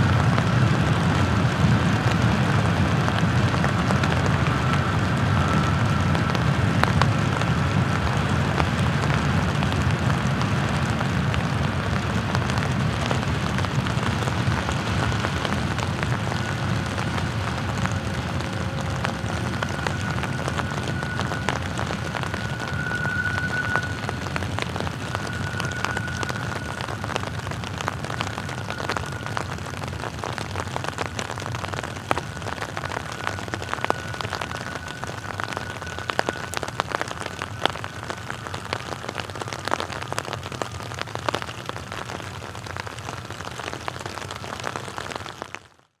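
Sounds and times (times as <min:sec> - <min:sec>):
freight train cars rumbling: 0:00.0 - 0:39.4
rain pattering: 0:00.0 - 0:46.0
high-pitched squeal: 0:01.1 - 0:10.2, 0:10.8 - 0:45.4.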